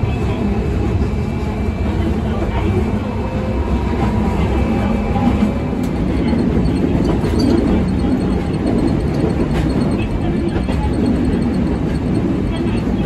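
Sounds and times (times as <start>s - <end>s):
tram motor hum and rumble: 0.0s - 13.0s
wheel noise on rails: 0.0s - 13.0s.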